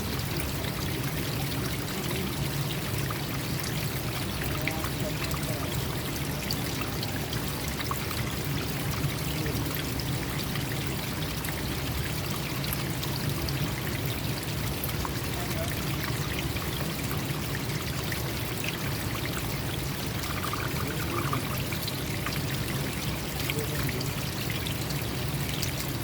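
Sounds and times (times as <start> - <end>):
small water splashes: 0.0 - 26.0
stream flowing: 0.0 - 26.0
water pouring and trickling: 0.0 - 26.0.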